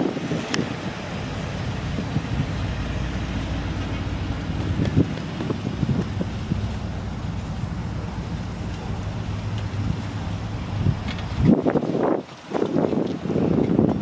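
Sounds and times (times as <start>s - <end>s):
wind buffeting microphone: 0.0s - 14.0s
pickup truck engine idling: 0.2s - 11.6s.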